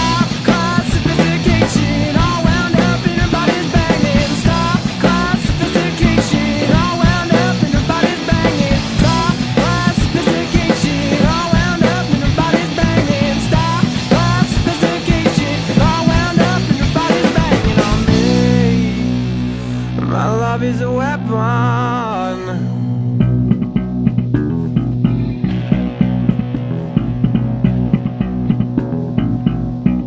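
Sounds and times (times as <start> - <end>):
indie rock band playing: 0.0 - 30.0.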